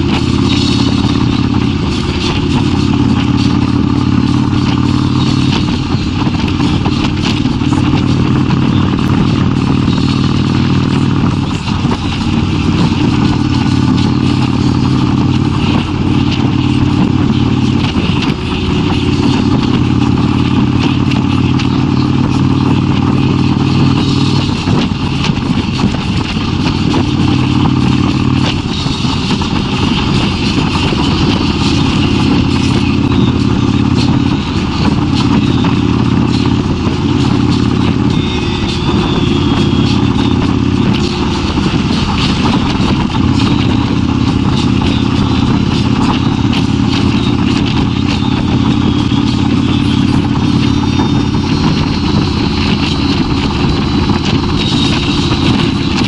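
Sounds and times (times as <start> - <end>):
motorcycle engine running: 0.0 - 56.0
rush of higher noise: 0.0 - 56.0.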